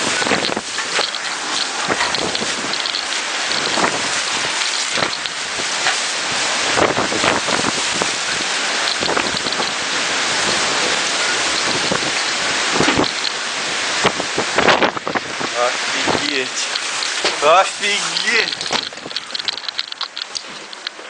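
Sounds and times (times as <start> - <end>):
heavy rain pouring: 0.0 - 21.0
rain spatters: 0.0 - 21.0.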